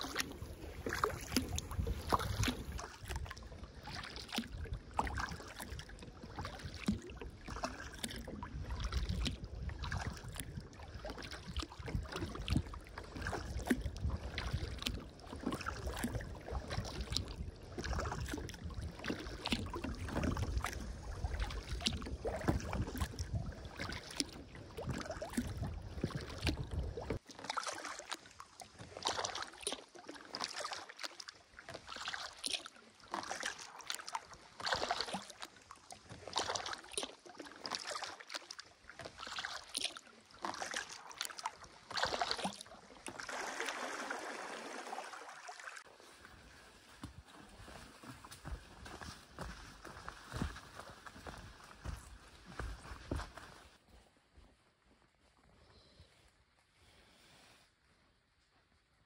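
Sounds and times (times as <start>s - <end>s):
paddle strokes splashing water: 0.0s - 54.1s.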